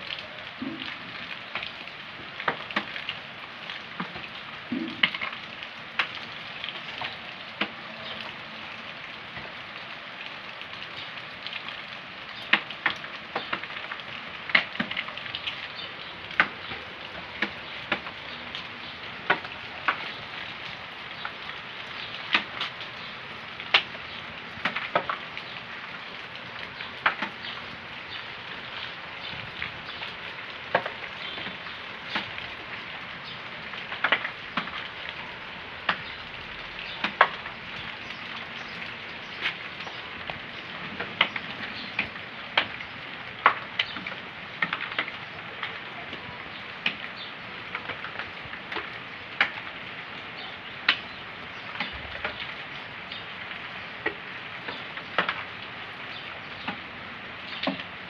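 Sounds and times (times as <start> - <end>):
drips splashing: 0.0 - 58.0
rain hissing: 0.0 - 58.0.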